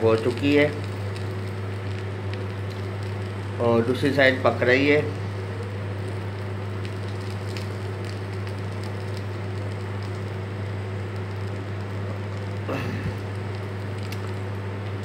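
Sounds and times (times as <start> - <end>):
chicken sizzling in a pan: 0.0 - 4.0, 4.9 - 14.8.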